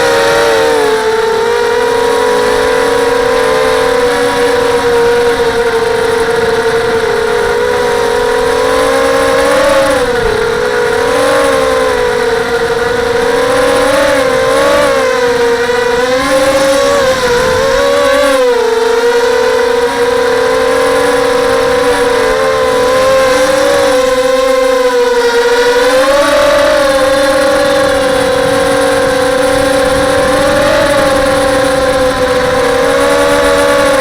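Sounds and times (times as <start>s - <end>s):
quadcopter motors whining: 0.0s - 34.0s.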